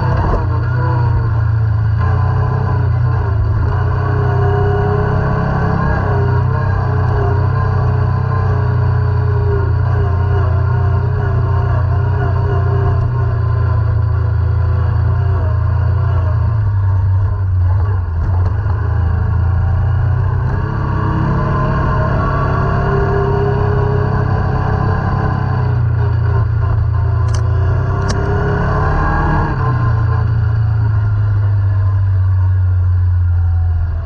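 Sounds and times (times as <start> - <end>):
quad engine droning: 0.0 - 34.0.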